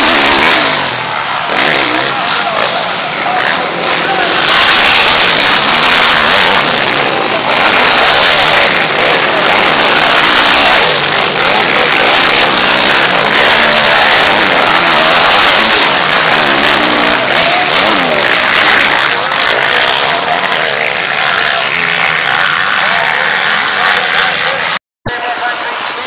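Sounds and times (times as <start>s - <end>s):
motorcycle engines revving: 0.0s - 26.0s.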